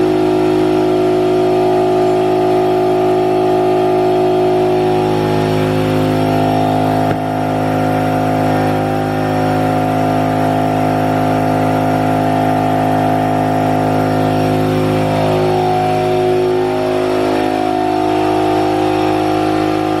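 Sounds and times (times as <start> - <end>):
machining center mechanical hum: 0.0 - 20.0.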